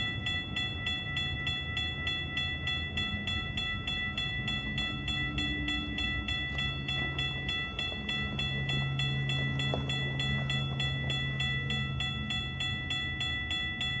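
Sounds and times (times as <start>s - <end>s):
freight train rumbling past: 0.0s - 14.0s
railroad crossing bell ringing: 0.0s - 14.0s.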